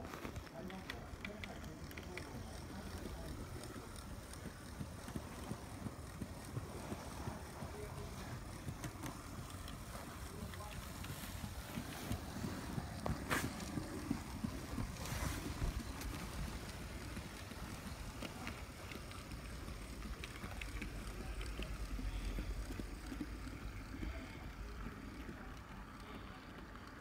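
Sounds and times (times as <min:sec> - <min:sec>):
model train rumbling on track: 0:00.0 - 0:27.0.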